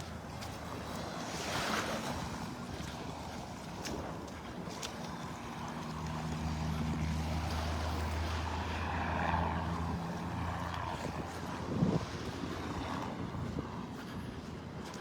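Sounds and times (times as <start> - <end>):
passing motor engine drone: 0.0 - 15.0
wind: 0.0 - 15.0.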